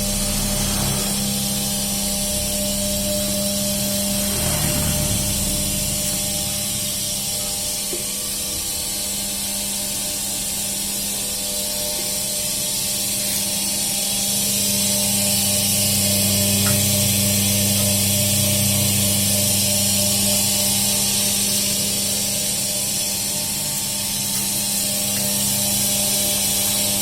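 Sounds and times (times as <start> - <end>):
deeper machine hum: 0.0 - 27.0
machine hiss: 0.0 - 27.0
oil press motor hum: 0.0 - 27.0.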